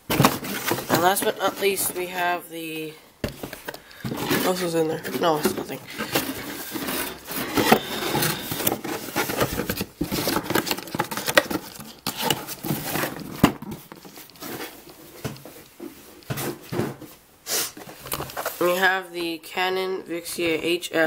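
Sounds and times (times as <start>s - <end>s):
cardboard boxes rustling and scraping: 0.1s - 2.3s, 3.2s - 19.0s.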